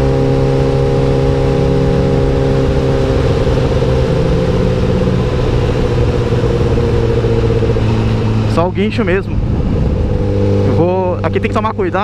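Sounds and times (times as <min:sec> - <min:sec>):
wind noise on microphone: 0:00.0 - 0:11.2
motorcycle engine cruising: 0:00.0 - 0:12.0.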